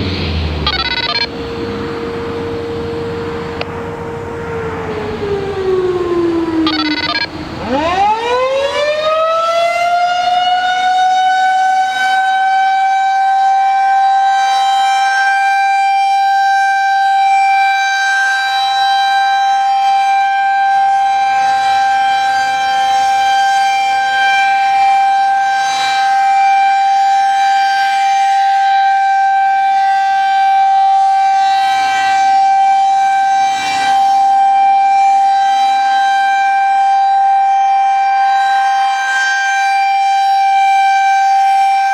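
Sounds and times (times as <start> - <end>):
outdoor warning siren: 0.0 - 41.9.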